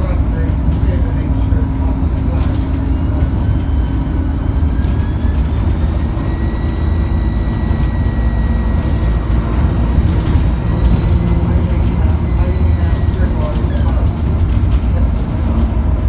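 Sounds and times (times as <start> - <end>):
bus diesel engine rumbling: 0.0 - 16.0
turbocharger whining: 0.1 - 16.0.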